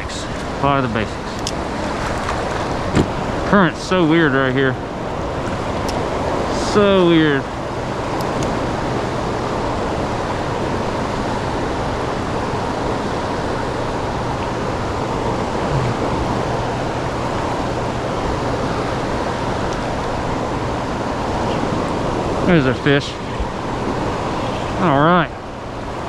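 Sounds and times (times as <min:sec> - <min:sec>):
turbulent water rushing: 0:00.0 - 0:26.0.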